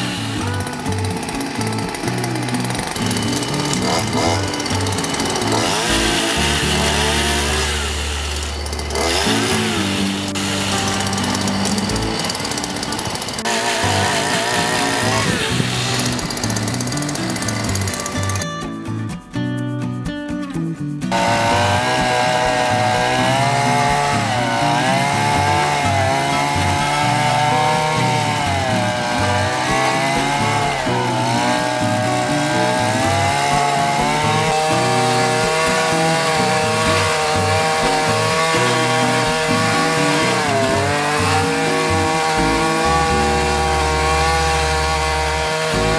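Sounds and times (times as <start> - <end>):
rotating tines through soil: 0.0 - 18.5, 21.1 - 45.9
brush cutter engine running fast: 0.0 - 18.6, 21.1 - 45.9.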